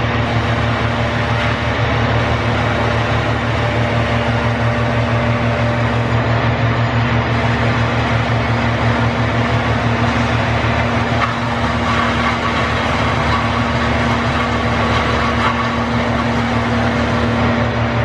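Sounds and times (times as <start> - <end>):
heavy engine idling: 0.0 - 18.0.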